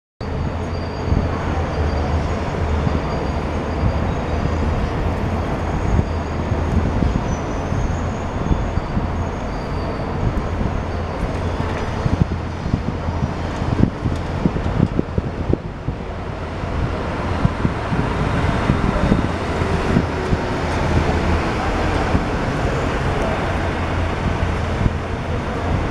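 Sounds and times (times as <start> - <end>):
diesel engine rumbling: 0.2 - 25.9.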